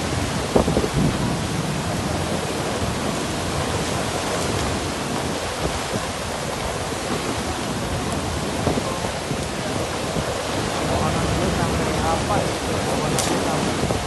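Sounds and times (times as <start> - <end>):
heavy rain in wind: 0.0 - 14.0.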